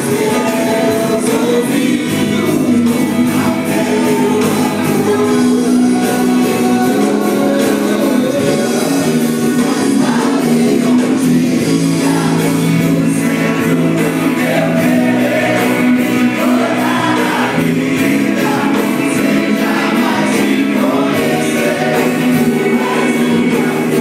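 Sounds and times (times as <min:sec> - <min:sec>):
band accompaniment: 0:00.0 - 0:24.0
group of singers: 0:00.0 - 0:24.0.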